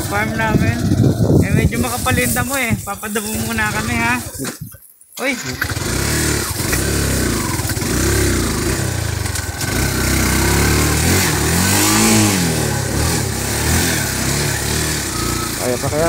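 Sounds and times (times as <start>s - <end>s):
motorcycle engine revving: 0.0s - 4.4s, 5.4s - 16.0s.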